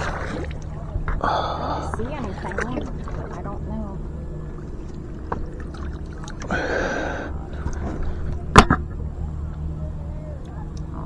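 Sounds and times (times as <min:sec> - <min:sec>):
water splashing: 0:00.0 - 0:09.1
steady low hum: 0:00.0 - 0:11.0.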